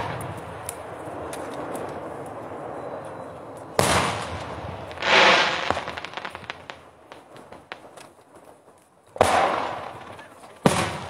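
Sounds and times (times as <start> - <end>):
fireworks shells exploding: 0.0 - 11.0
small firework cracks: 0.0 - 11.0.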